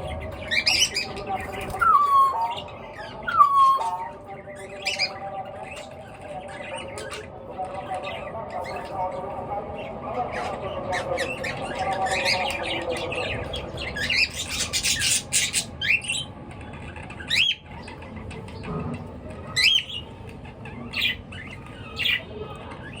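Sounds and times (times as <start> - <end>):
birds chirping and squawking: 0.0 - 23.0.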